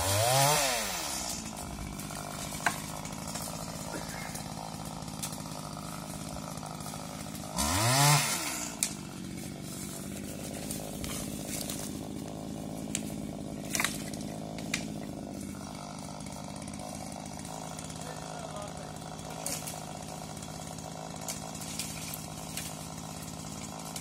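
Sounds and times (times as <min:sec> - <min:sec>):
pole saw engine idling and revving: 0:00.0 - 0:24.0.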